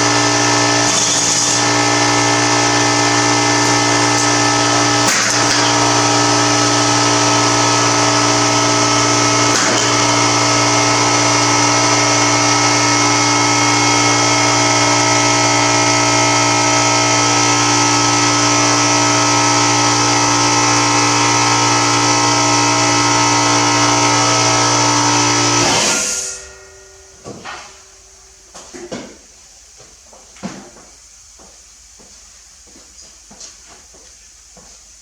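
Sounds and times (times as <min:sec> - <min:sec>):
machine humming: 0:00.0 - 0:32.7.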